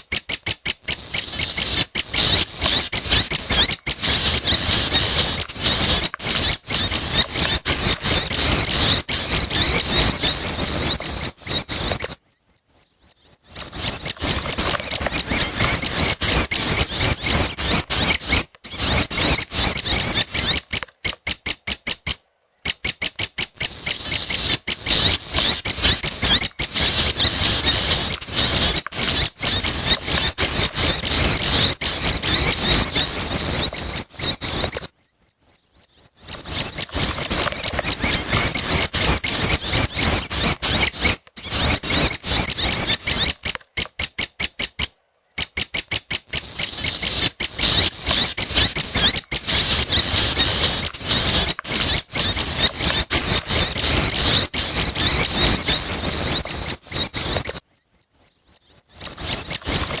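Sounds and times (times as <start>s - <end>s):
songbird high-pitched chatter: 0.0s - 60.0s.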